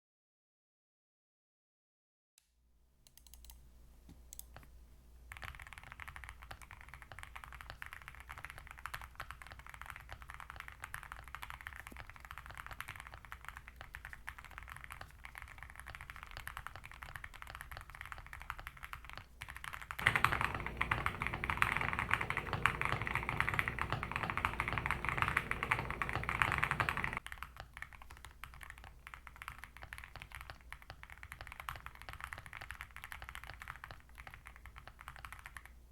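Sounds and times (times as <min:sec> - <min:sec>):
mechanical keyboard typing: 0:05.3 - 0:35.8.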